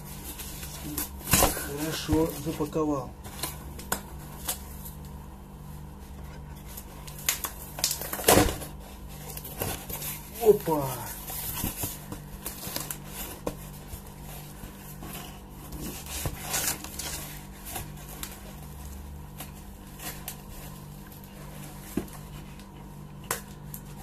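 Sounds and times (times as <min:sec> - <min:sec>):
cardboard box being rummaged: 0:00.0 - 0:05.1, 0:05.8 - 0:24.0
steady low hum: 0:00.0 - 0:24.0.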